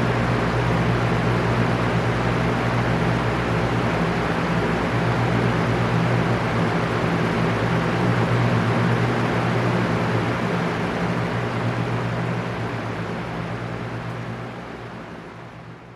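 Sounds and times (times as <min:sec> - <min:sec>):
electric fan running: 0:00.0 - 0:15.9.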